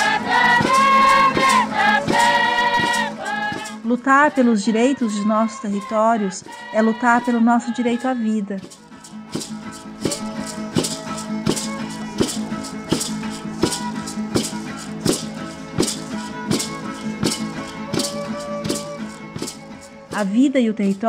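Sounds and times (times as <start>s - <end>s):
maraca rattle shaken: 0.0s - 21.0s.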